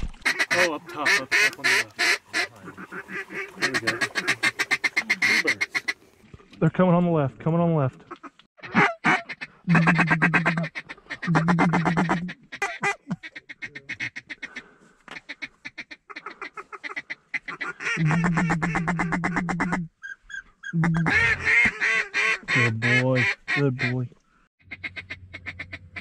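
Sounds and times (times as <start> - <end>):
duck call quacking: 0.2 - 6.0, 8.2 - 19.9, 20.8 - 26.0.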